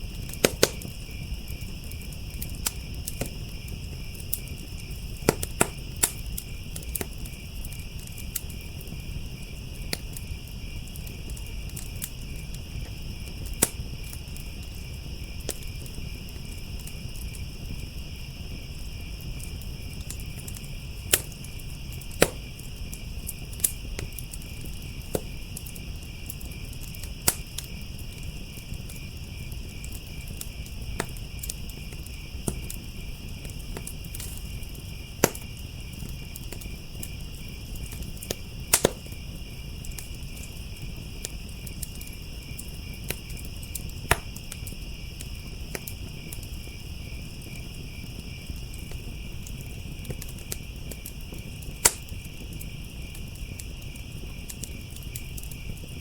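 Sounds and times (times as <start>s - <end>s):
crickets chirring: 0.0s - 56.0s
wood fire crackling: 0.0s - 56.0s.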